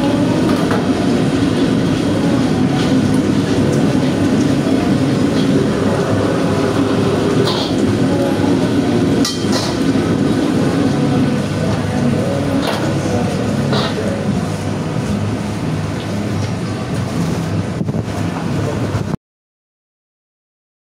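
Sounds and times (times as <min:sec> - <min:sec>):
wok burner and exhaust hood rushing: 0:00.0 - 0:19.2.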